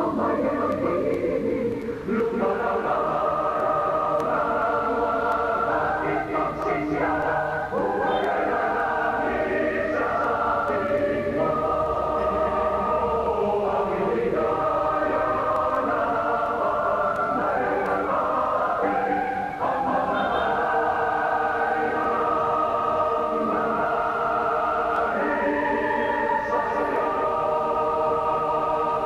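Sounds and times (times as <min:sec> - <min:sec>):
choir singing sustained chords: 0:00.0 - 0:29.0.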